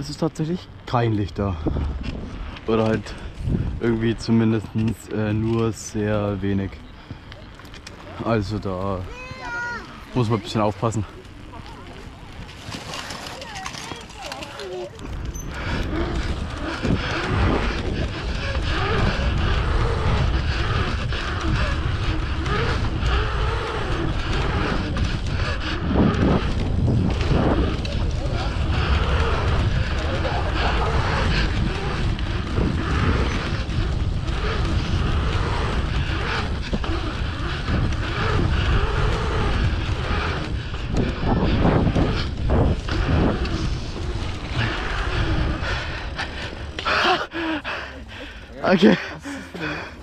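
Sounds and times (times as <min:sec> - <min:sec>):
bicycle tyres rumbling on pavement: 0:00.0 - 0:50.0
wheels rolling over asphalt: 0:00.0 - 0:50.0
wind buffeting microphone: 0:00.0 - 0:50.0.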